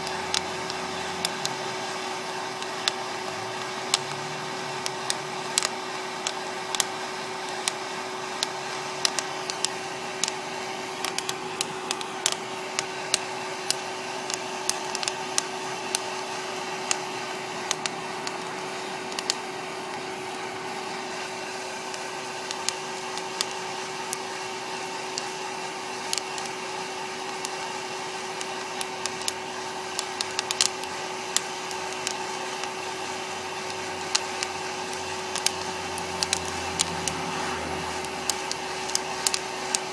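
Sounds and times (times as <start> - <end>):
coffee beans cracking: 0.0 - 16.2, 16.8 - 20.1, 21.9 - 24.4, 25.0 - 25.4, 26.0 - 26.6, 27.2 - 39.9
popcorn popper blower hum: 0.0 - 39.9.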